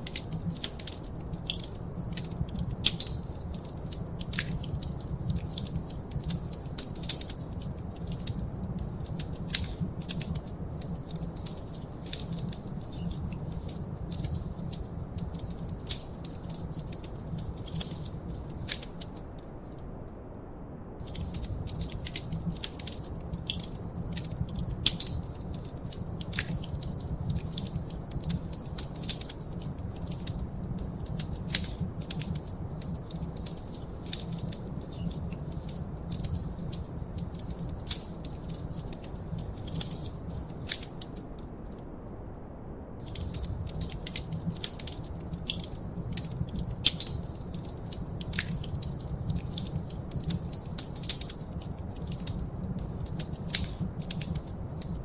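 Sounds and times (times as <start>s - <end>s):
wood fire crackling: 0.0s - 20.0s, 21.0s - 42.1s, 43.0s - 55.0s.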